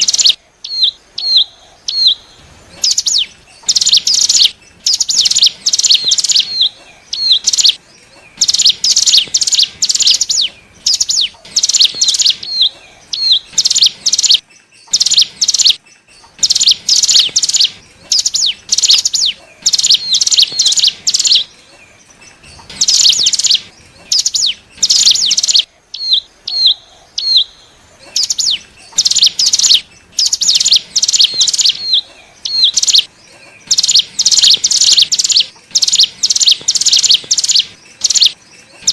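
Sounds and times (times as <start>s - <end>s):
bird high chattering song: 0.0s - 38.9s.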